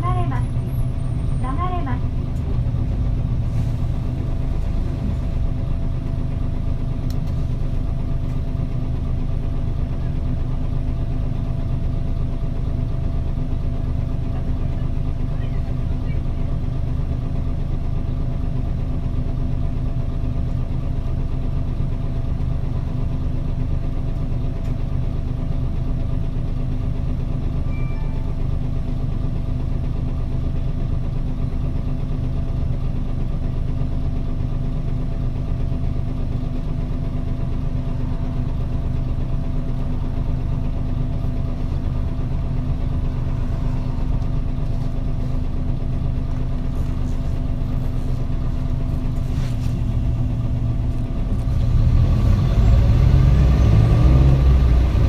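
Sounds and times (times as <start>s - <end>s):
diesel bus engine idling: 0.0s - 55.0s.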